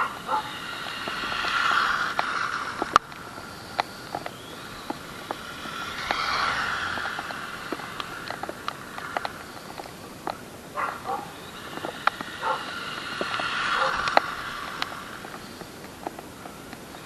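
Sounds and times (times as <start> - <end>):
sharp ticks: 0.0 - 17.0
toy truck electric motor whining: 0.0 - 17.0.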